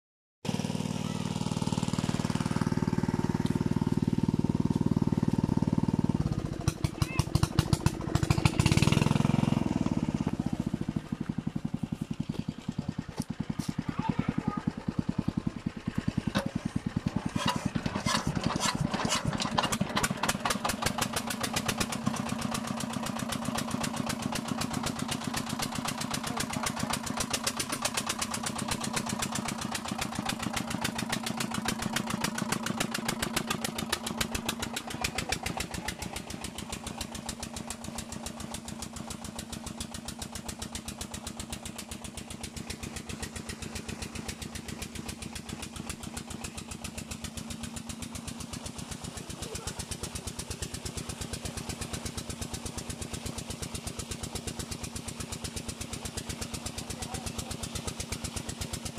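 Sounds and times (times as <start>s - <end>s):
pump engine running: 0.4s - 58.9s.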